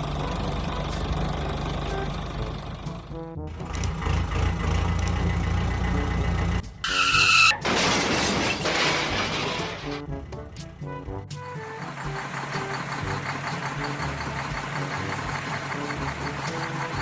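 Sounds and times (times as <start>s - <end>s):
tyres skidding: 0.0s - 17.0s
vehicle engine running: 0.0s - 17.0s.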